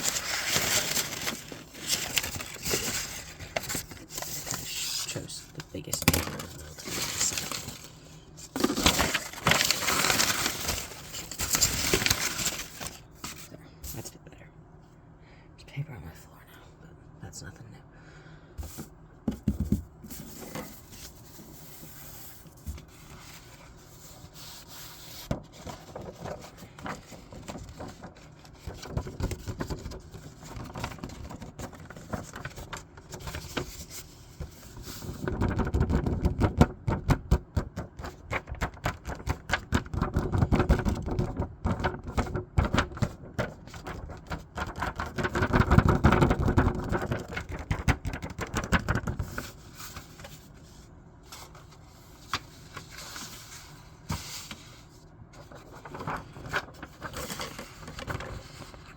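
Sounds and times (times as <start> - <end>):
paper rustling: 0.0 - 14.1, 18.6 - 37.0, 37.8 - 58.9.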